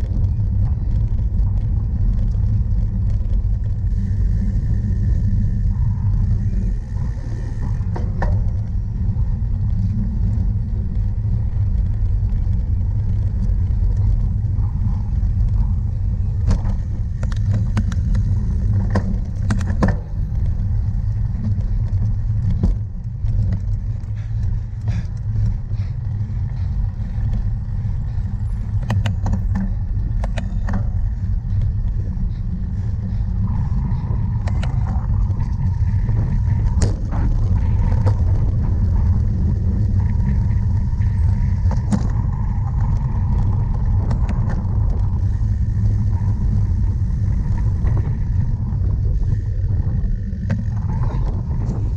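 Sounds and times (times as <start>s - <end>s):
bike clicks and rattles: 0.0s - 51.9s
wind buffeting microphone: 0.0s - 51.9s.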